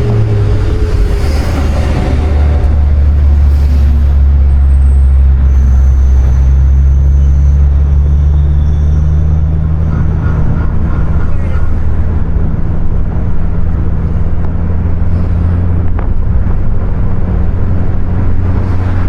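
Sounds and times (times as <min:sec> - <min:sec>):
car engine droning steadily: 0:00.0 - 0:19.0.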